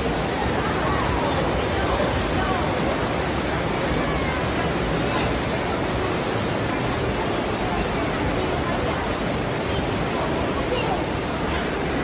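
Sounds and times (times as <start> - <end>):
underground river rushing: 0.0 - 12.0.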